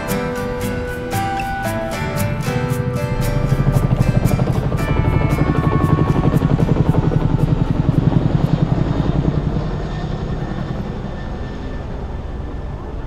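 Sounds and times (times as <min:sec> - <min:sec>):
helicopter rotor blades beating: 0:00.0 - 0:13.0.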